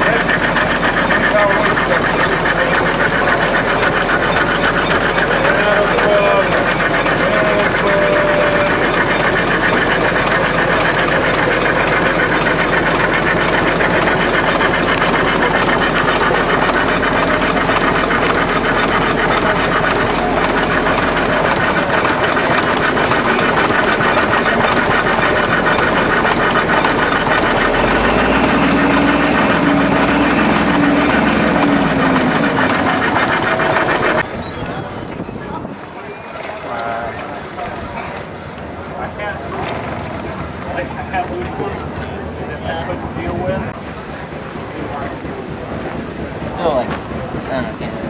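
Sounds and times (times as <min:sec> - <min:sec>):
steam engine exhaust beat: 0:00.0 - 0:48.0.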